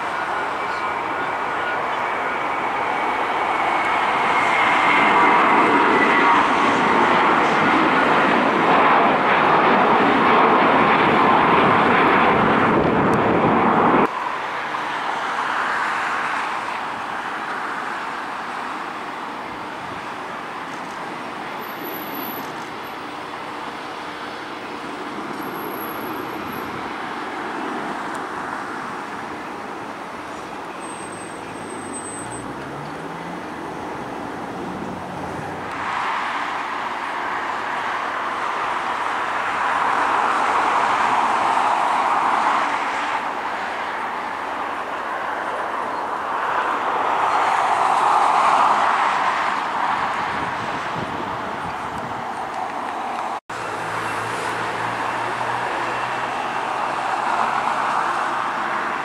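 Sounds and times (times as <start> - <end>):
steady jet noise: 0.0 - 30.7, 33.0 - 59.0
jet engines at climb power: 0.0 - 59.0.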